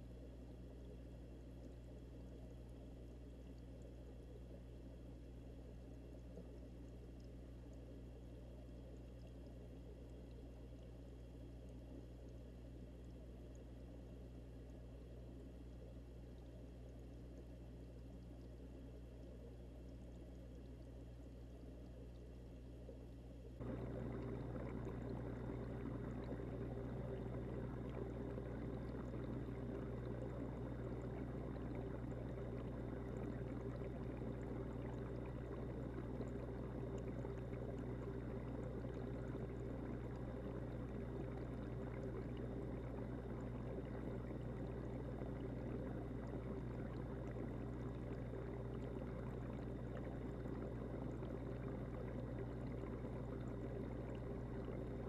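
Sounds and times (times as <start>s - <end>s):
aquarium bubbling water: 0.0s - 55.0s
low hum: 0.0s - 55.0s.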